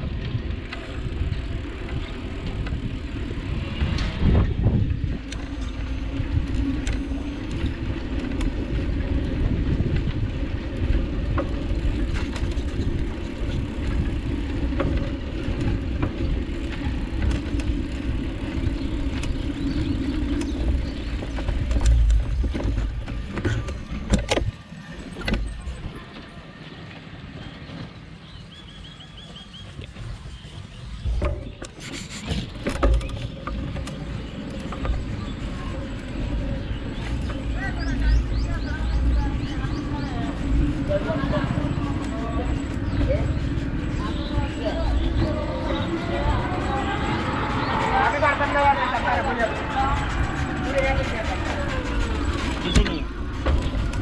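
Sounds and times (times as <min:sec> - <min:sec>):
wind buffeting microphone: 0:00.0 - 0:24.6, 0:29.6 - 0:54.0
road rumble: 0:00.0 - 0:54.0.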